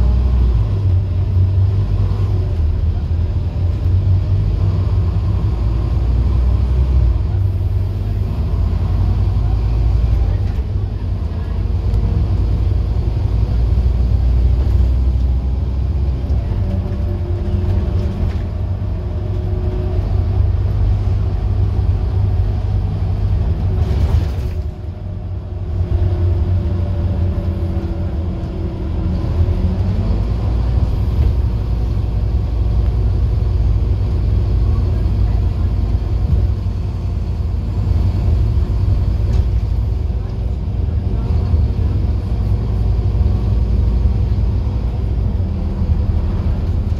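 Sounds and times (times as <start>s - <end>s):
bus diesel engine rumble: 0.0s - 46.9s.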